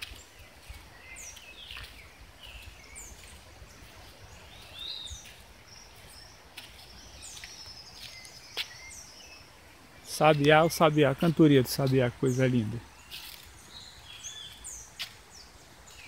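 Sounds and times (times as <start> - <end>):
songbirds calling and singing: 0.0 - 16.0.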